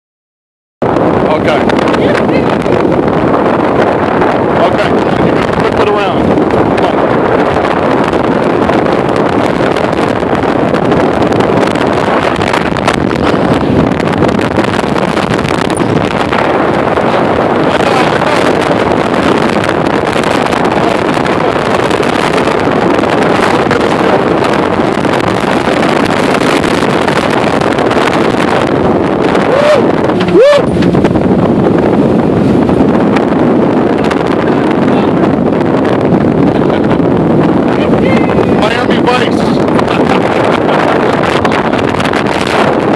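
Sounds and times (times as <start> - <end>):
boat engine: 0.8 - 42.9
water streaming past hull: 0.8 - 42.9
wind buffeting microphone: 0.8 - 42.9.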